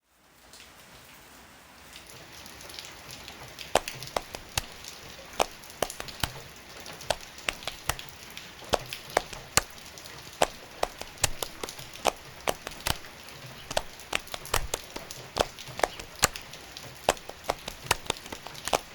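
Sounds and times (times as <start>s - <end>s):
rain falling: 1.8s - 18.9s
drops tapping on hard surface: 3.7s - 18.9s.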